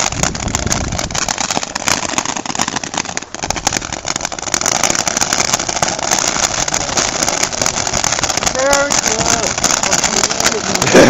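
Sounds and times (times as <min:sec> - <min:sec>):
ground firework hissing and crackling: 0:00.0 - 0:11.0.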